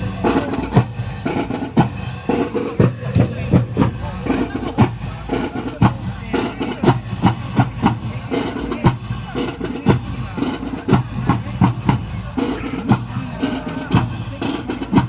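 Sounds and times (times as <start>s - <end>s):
crowd chatter: 0.0s - 15.0s
music with steady drum beat: 0.0s - 15.0s.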